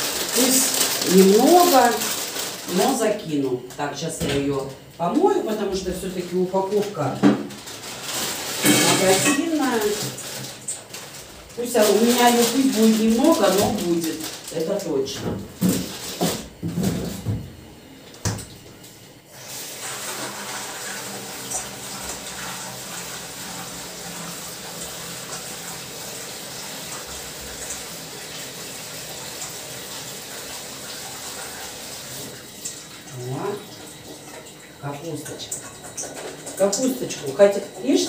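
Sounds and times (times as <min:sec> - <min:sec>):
kitchen tap running: 0:00.0 - 0:38.0.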